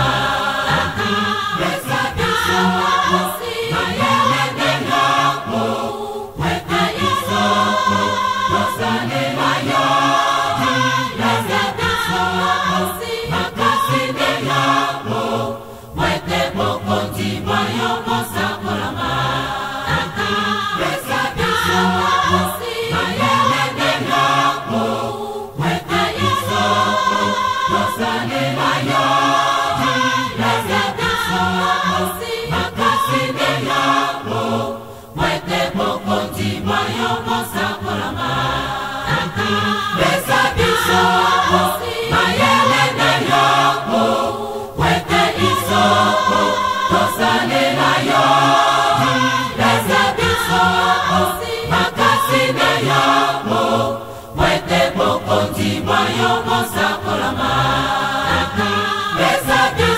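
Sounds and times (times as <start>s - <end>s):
choir singing gospel: 0.0s - 59.9s
musical backing: 0.0s - 59.9s.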